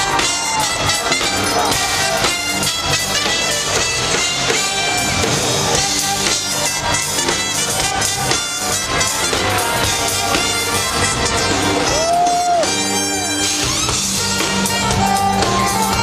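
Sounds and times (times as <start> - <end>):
drum kit: 0.0 - 16.0
electric guitar: 0.0 - 16.0
keyboard: 0.0 - 16.0.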